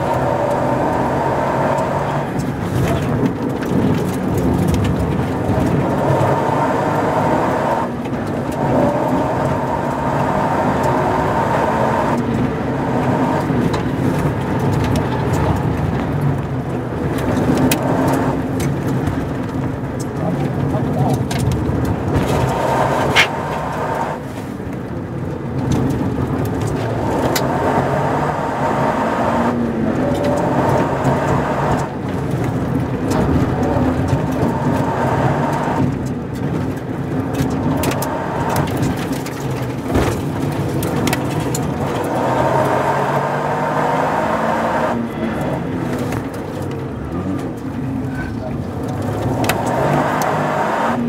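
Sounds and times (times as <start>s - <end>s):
car engine revving: 0.0s - 51.0s
tyre and road noise: 0.0s - 51.0s.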